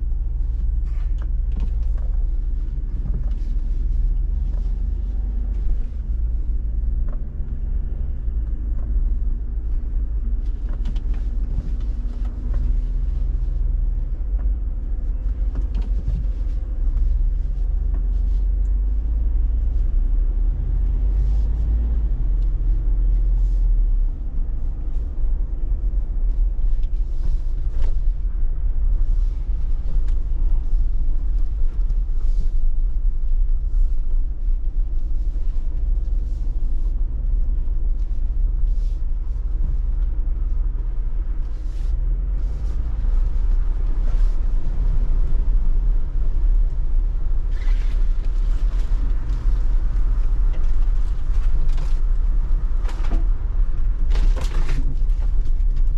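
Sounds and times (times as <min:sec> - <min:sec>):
engine low rumble: 0:00.0 - 0:55.9.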